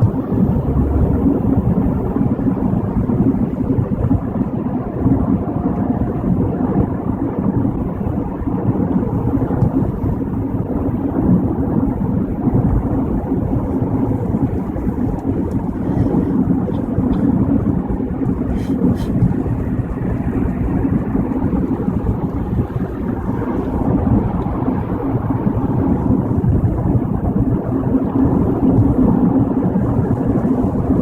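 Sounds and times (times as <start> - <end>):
road and tyre noise inside car: 0.0 - 31.0.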